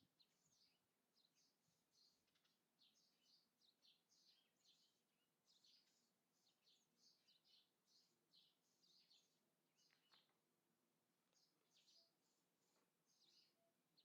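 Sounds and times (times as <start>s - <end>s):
faint birdsong chirps: 0.0s - 14.0s.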